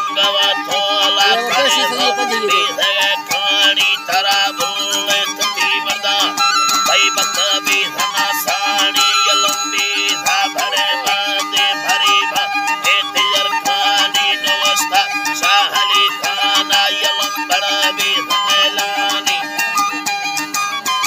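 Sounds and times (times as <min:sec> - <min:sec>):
man singing: 0:00.0 - 0:20.0
wooden flute: 0:00.0 - 0:21.0
plucked lute strumming: 0:00.2 - 0:21.0.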